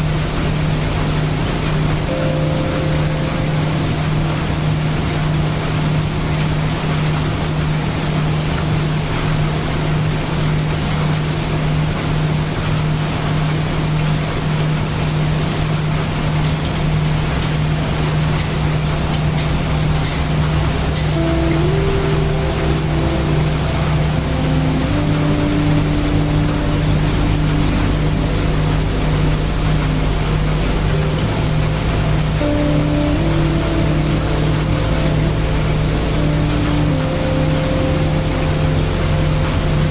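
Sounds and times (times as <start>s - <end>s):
constant low hum: 0.0s - 39.9s
heavy rain hiss: 0.0s - 39.9s.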